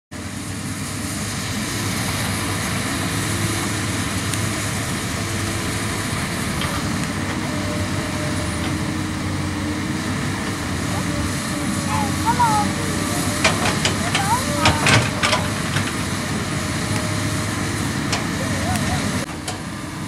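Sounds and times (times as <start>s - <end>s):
excavator diesel engine running: 0.2s - 20.0s.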